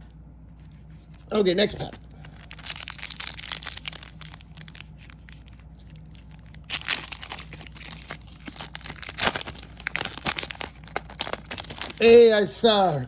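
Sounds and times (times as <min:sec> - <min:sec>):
wrapper crinkling: 0:01.0 - 0:13.0
wrapper ripping: 0:01.1 - 0:12.5.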